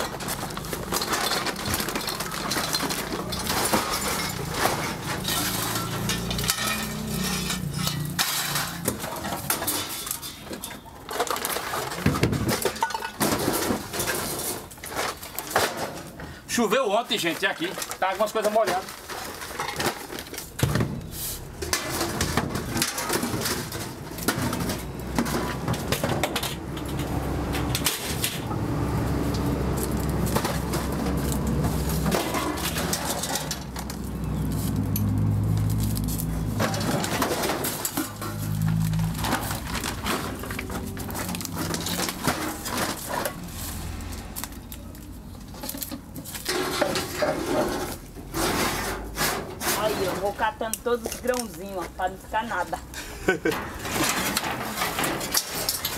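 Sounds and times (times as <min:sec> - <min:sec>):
metal cans clattering: 0:00.0 - 0:28.5, 0:29.1 - 0:55.9.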